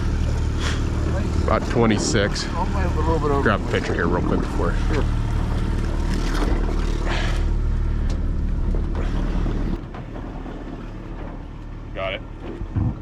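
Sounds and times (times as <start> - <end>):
boat motor droning: 0.0 - 13.0.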